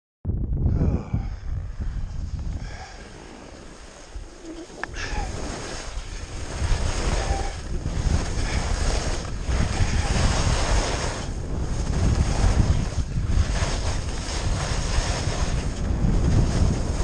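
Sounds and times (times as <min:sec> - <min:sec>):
wind buffeting microphone: 0:00.2 - 0:17.0
skis sliding on snow: 0:02.0 - 0:17.0.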